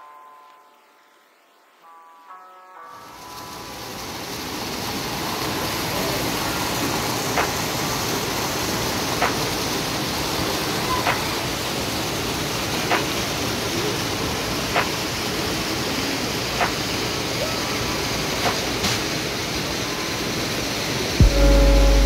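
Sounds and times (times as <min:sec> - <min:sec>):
waterfall splashing into pool: 0:03.0 - 0:22.0.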